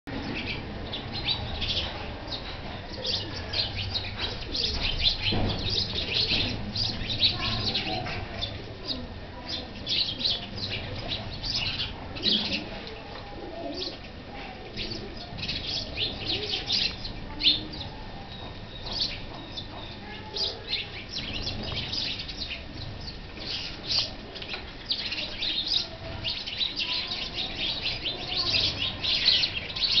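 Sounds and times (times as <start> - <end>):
sparrows chirping: 0.1 - 30.0.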